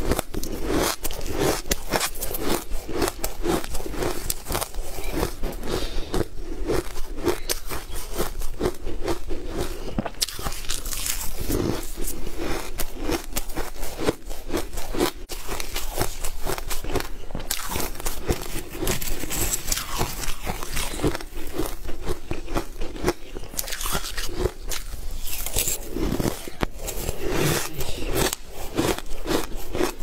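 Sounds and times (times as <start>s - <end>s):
crunchy chewing mouth sounds: 0.0s - 30.0s.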